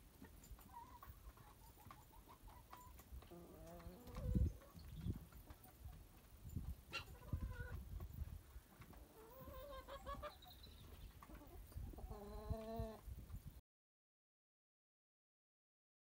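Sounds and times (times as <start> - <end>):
hens clucking: 0.2 - 13.0.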